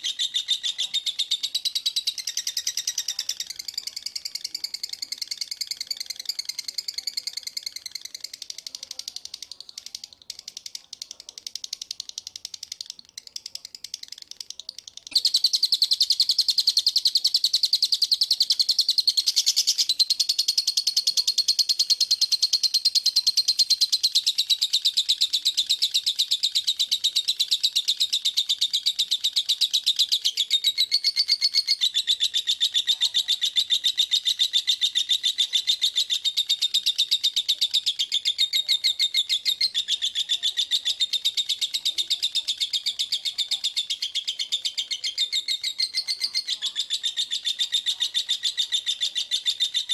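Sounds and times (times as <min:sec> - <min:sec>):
songbird fast trill: 0:00.0 - 0:49.9.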